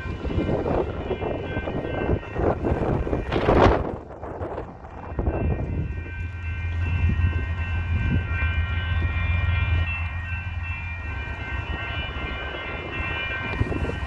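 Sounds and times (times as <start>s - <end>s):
crossing warning bell ringing: 0.0s - 14.0s
diesel locomotive rumble: 0.0s - 14.0s.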